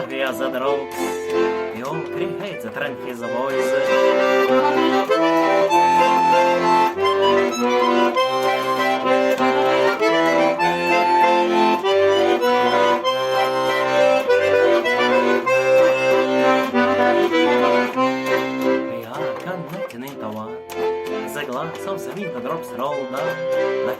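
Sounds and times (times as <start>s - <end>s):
instrumental music with chords: 0.0s - 23.9s.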